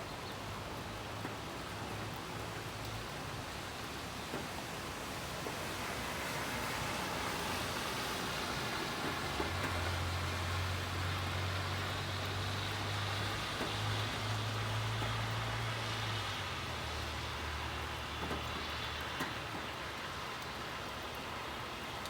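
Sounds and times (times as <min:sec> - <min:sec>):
steady rain on street: 0:00.0 - 0:22.0.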